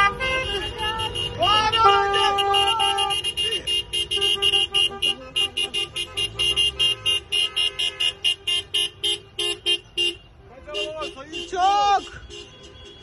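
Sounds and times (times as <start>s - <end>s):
car horns honking: 0.0s - 13.0s.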